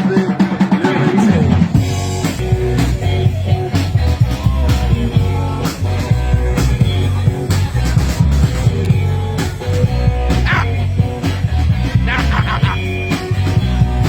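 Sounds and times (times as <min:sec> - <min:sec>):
bass guitar: 0:00.0 - 0:14.0
drum kit beat: 0:00.0 - 0:14.0
electric guitar: 0:01.5 - 0:14.0.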